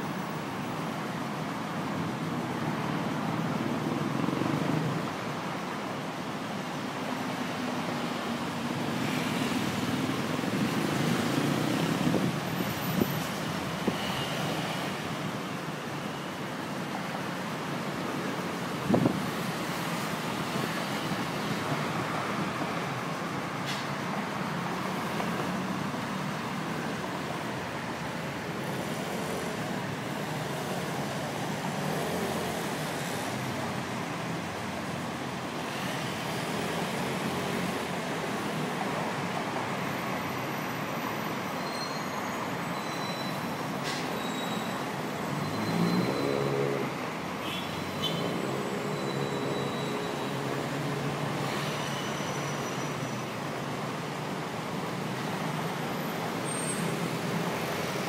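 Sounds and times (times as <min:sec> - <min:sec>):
heavy road traffic: 0:00.0 - 0:58.0.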